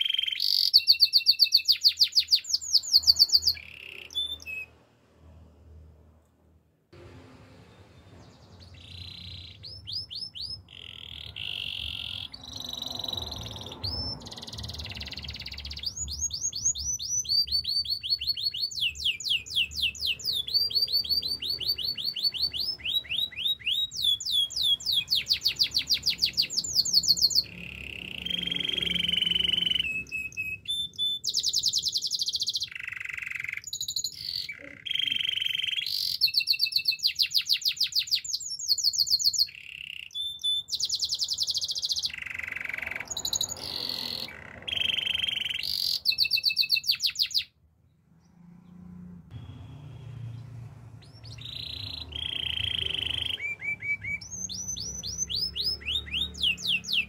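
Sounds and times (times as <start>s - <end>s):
canary singing trills: 0.0s - 4.8s, 8.1s - 47.6s, 48.2s - 57.0s.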